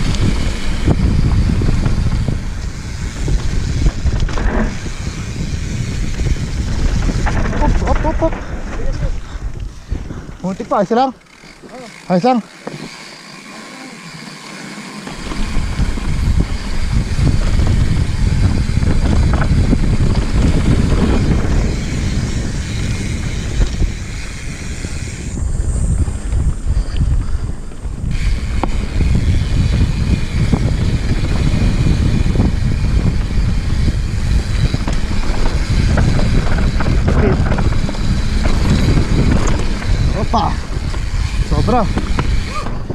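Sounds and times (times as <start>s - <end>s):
wind buffeting microphone: 0.0s - 13.5s, 14.3s - 42.9s
bike rattling: 0.0s - 42.9s
bike tyres rumbling on dirt: 0.0s - 42.9s.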